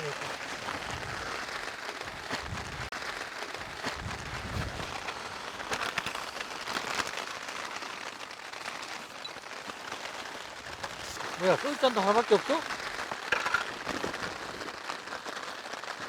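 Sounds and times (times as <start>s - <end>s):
heavy rain drumming on a tarp: 0.0s - 16.0s.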